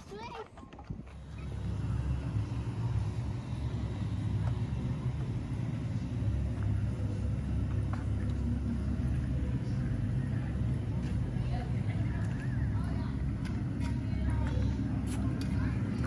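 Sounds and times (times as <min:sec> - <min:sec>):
low continuous rumble: 0:00.0 - 0:16.0.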